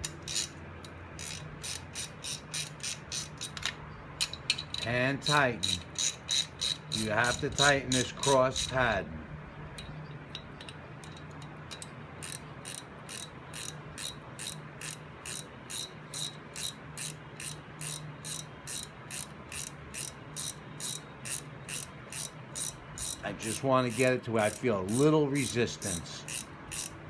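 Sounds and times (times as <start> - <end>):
ratchet wrench clicking: 0.0 - 8.9, 10.3 - 27.0.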